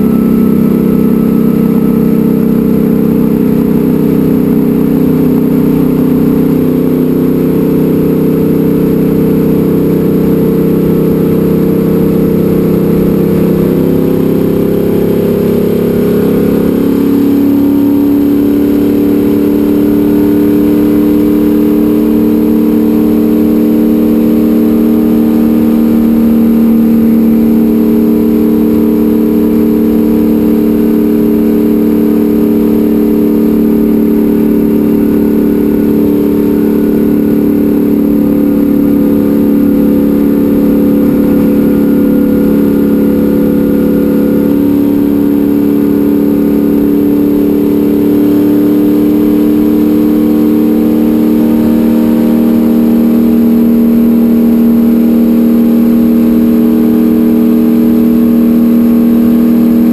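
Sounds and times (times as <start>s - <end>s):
racecar engine at high revs: 0.0s - 59.9s.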